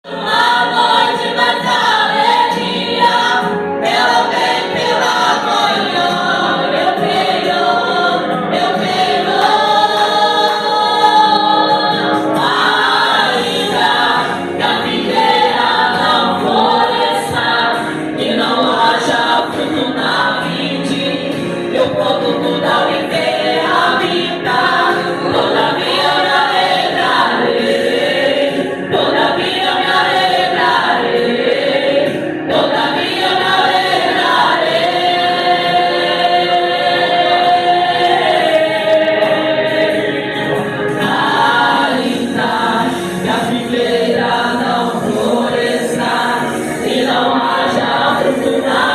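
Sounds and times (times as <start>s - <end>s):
choir singing in harmony: 0.0s - 48.9s.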